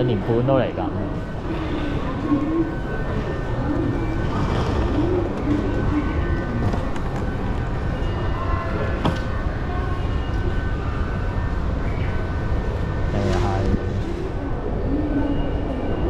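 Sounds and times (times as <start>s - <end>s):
train rumble and hum: 0.8s - 16.0s.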